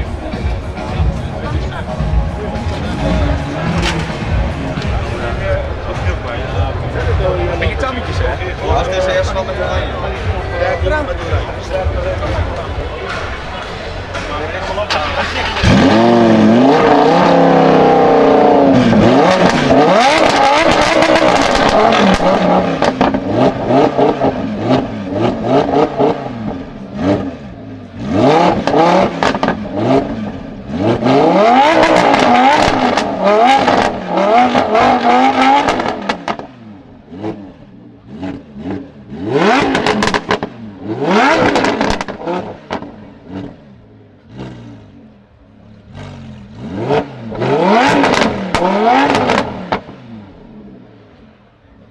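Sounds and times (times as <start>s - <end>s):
exhaust crackles and pops: 0.0s - 17.6s, 18.6s - 24.9s, 28.2s - 37.4s, 38.1s - 43.6s, 46.8s - 50.0s
sports car engine revving: 0.0s - 51.9s.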